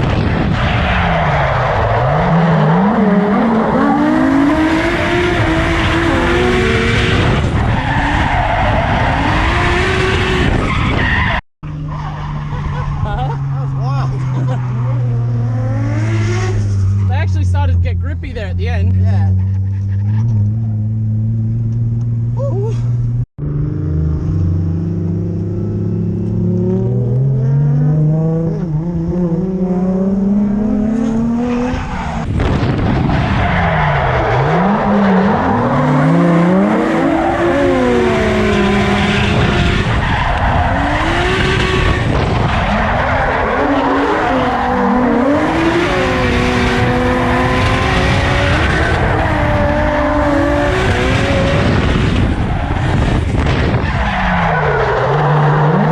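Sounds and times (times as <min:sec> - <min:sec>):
car engine revving: 0:00.0 - 0:22.4, 0:23.0 - 0:55.9.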